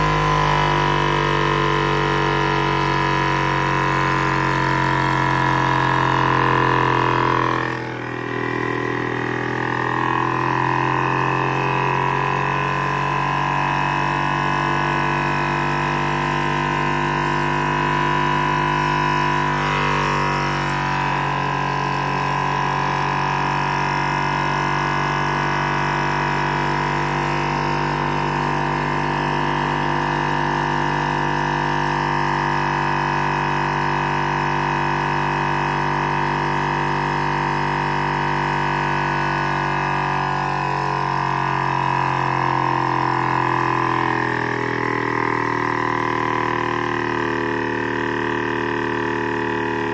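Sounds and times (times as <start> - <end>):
stirling engine droning hum: 0.0 - 49.9.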